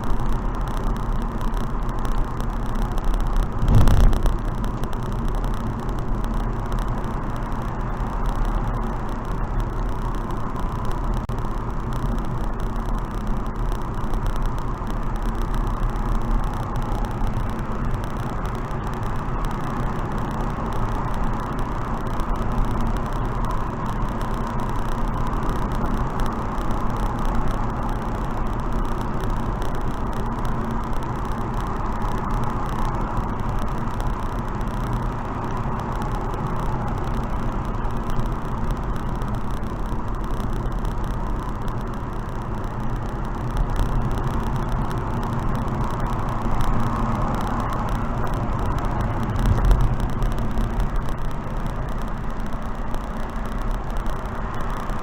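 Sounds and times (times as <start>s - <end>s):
car wind and road noise: 0.0s - 55.0s.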